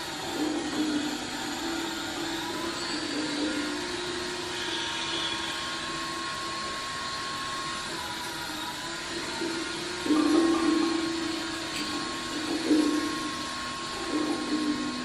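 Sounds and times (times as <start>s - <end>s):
thin high tone: 0.0s - 15.0s.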